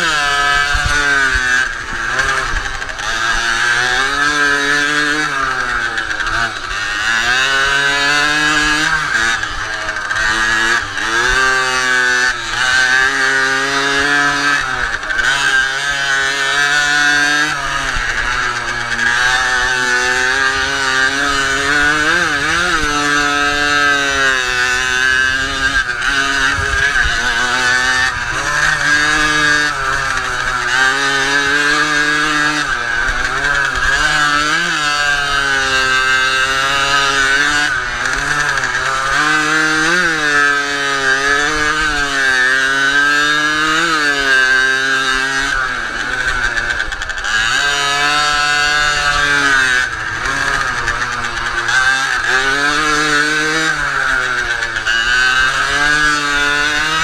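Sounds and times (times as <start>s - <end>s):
moped engine revving: 0.0s - 57.0s.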